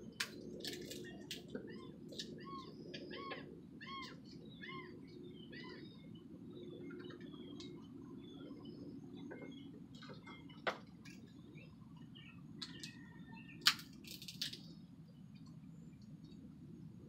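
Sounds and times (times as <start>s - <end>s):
low background hum: 0.0s - 17.0s
songbirds chirping: 0.0s - 17.0s.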